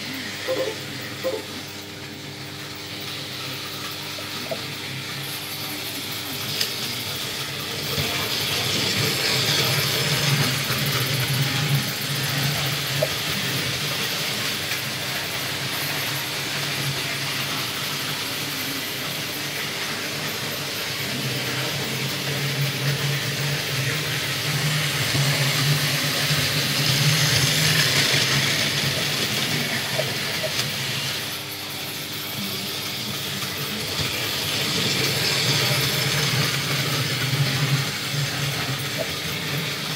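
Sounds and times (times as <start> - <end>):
wheels rattling on rails: 2.9 - 39.9.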